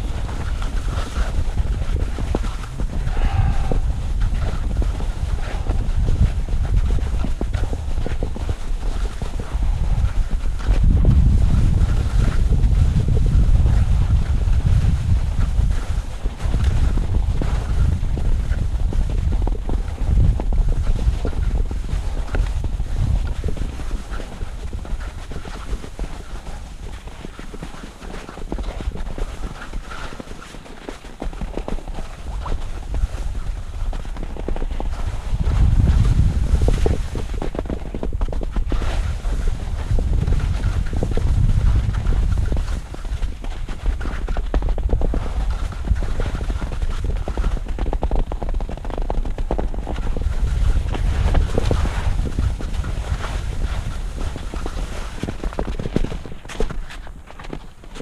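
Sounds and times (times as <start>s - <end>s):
wind buffeting microphone: 0.0s - 30.4s, 31.1s - 58.0s
skis scraping over snow: 0.0s - 47.7s, 49.4s - 58.0s.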